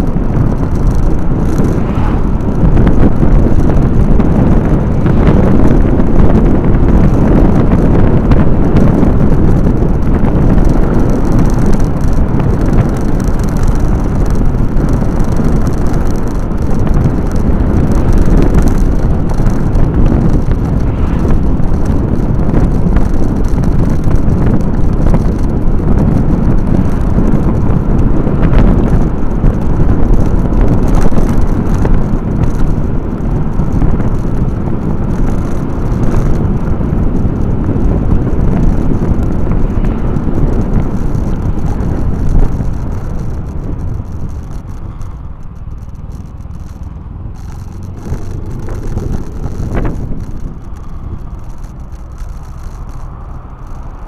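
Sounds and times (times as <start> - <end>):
road noise: 0.0 - 54.0
wind buffeting microphone: 0.0 - 54.0.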